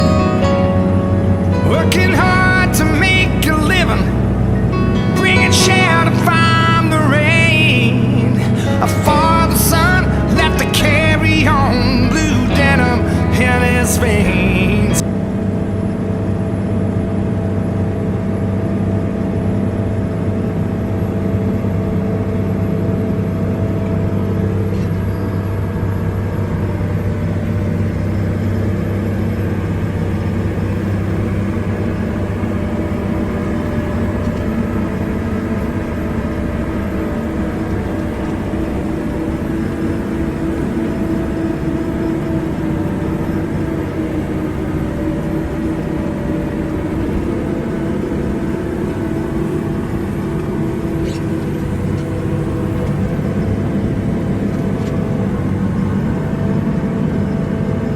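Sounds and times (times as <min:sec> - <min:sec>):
large engine humming steadily: 0:00.0 - 0:57.9.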